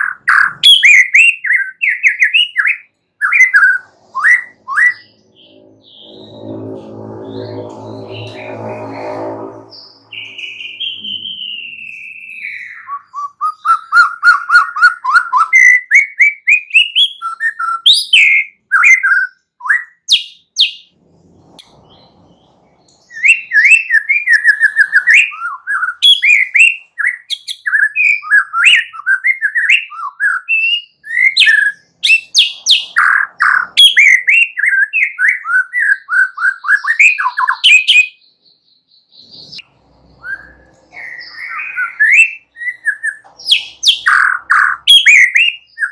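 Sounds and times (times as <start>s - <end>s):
bird singing whistles and chirps: 0.0s - 8.9s, 9.7s - 20.9s, 21.8s - 39.6s, 40.2s - 45.9s.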